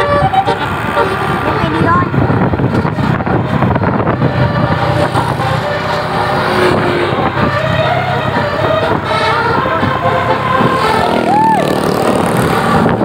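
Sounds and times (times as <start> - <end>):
bus driving past: 0.0 - 13.0.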